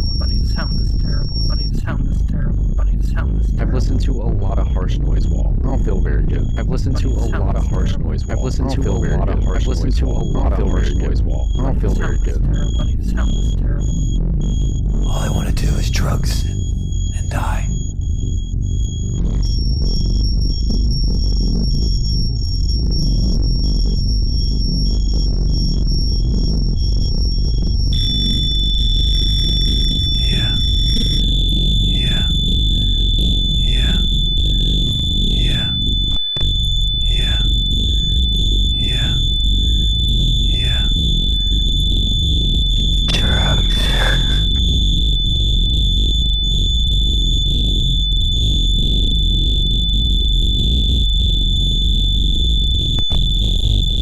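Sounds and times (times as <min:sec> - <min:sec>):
dense low rumble: 0:00.0 - 0:54.0
distorted noise wall: 0:00.0 - 0:54.0
steady high-pitched whine: 0:00.0 - 0:54.0.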